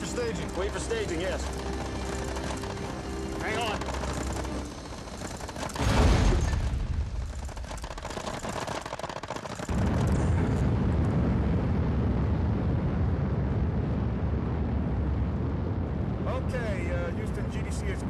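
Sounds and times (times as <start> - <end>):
rattling rumble: 0.0 - 16.2
heavy steady rocket rumble: 0.0 - 18.0.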